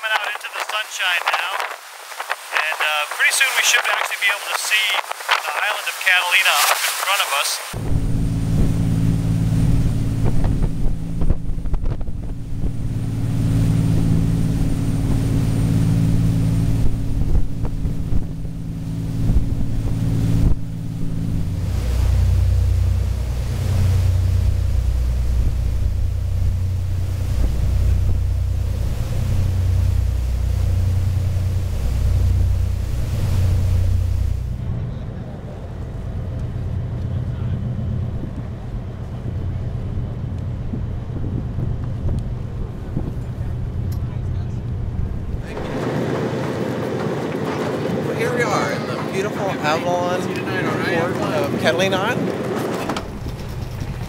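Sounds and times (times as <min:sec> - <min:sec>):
wind buffeting microphone: 0:00.1 - 0:05.8, 0:07.8 - 0:54.0
ferry engines droning: 0:07.7 - 0:54.0.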